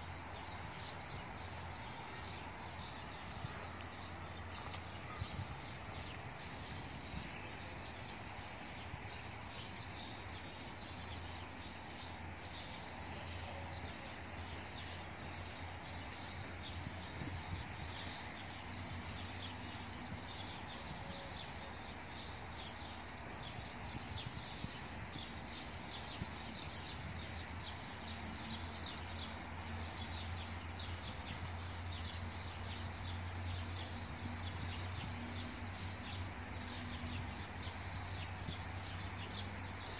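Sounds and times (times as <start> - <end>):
bird chirping: 0.0 - 39.9
low outdoor background hum: 0.0 - 39.9.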